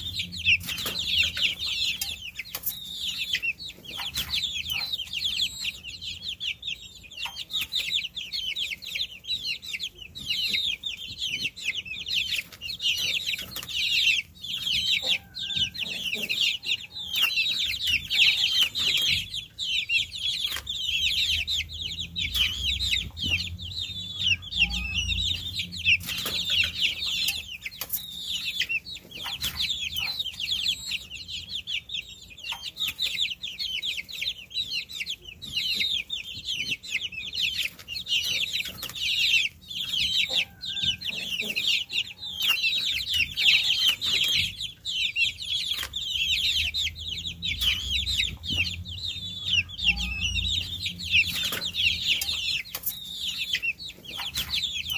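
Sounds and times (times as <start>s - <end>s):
baby chicks peeping: 0.0s - 54.9s.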